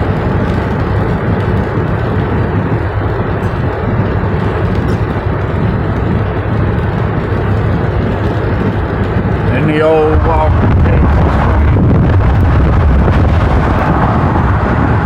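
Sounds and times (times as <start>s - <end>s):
engine and tyre rumble: 0.0s - 15.0s
wind: 0.0s - 15.0s.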